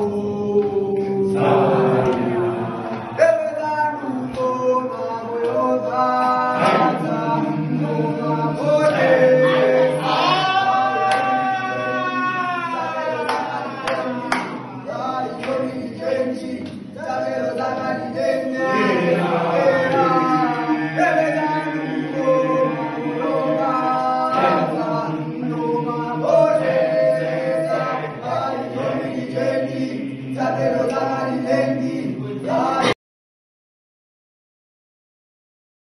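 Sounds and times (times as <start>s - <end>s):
students singing a cappella: 0.0s - 33.0s.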